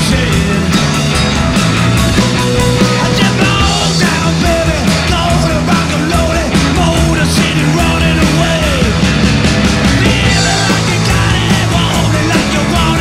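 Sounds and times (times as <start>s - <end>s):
rock band playing live: 0.0s - 13.0s
steady drumbeat: 0.0s - 13.0s.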